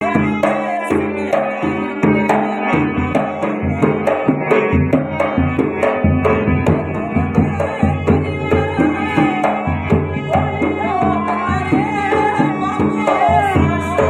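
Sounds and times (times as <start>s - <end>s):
hand drum beating: 0.0s - 14.0s.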